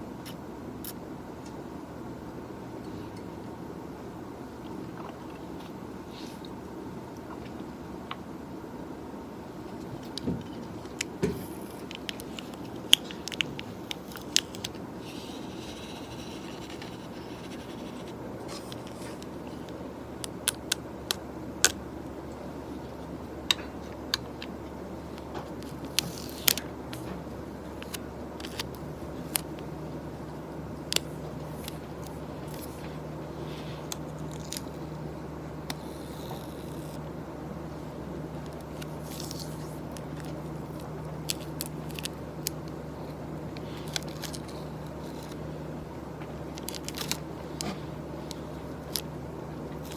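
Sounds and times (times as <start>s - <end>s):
low office hum: 0.0s - 49.9s
second low hum: 0.0s - 49.9s.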